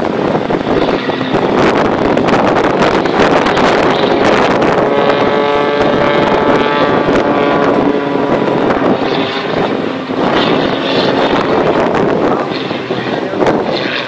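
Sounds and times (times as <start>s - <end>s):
propeller plane passing overhead: 0.0s - 14.0s
wind buffeting microphone: 0.0s - 14.0s.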